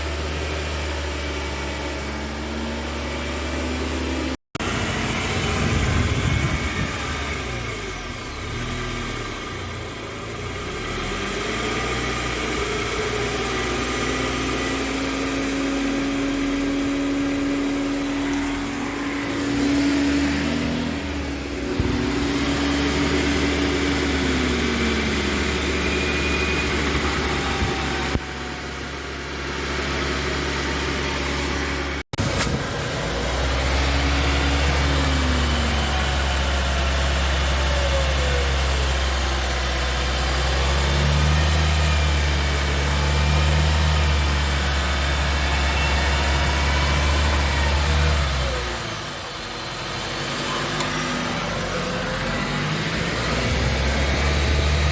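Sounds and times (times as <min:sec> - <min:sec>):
car road noise drone: 0:00.0 - 0:54.9.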